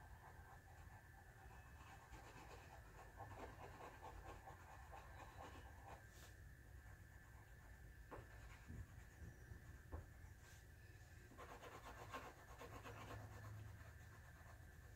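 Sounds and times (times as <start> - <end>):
pencil scratching on paper: 0.0 - 10.1, 11.3 - 14.9
low steady hum: 0.0 - 14.9.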